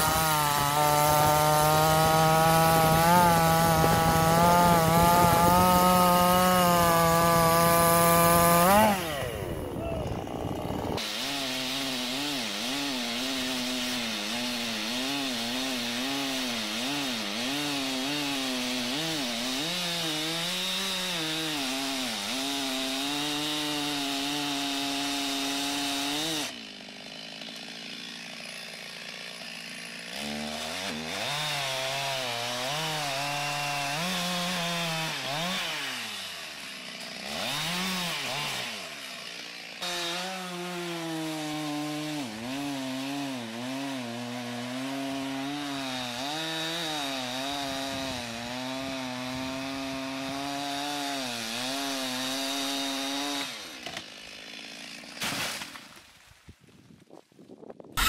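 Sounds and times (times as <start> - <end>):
chainsaw cutting and revving: 0.0 - 56.3.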